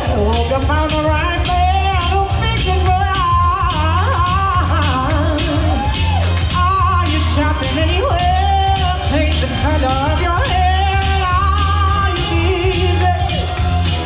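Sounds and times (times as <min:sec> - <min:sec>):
backing track with bass line: 0:00.0 - 0:14.0
woman singing into microphone: 0:00.0 - 0:14.0.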